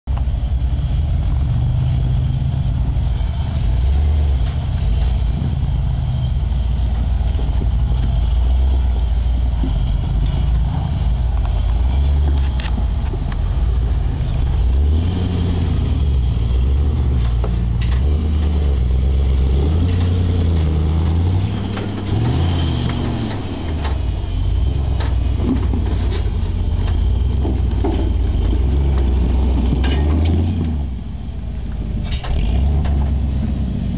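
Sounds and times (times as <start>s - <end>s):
engine labouring: 0.0s - 33.9s.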